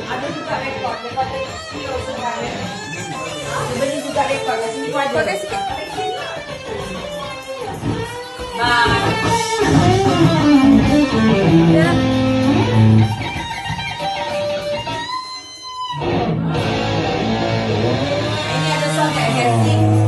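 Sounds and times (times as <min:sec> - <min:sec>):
electric guitar through amplifier: 0:00.0 - 0:20.0.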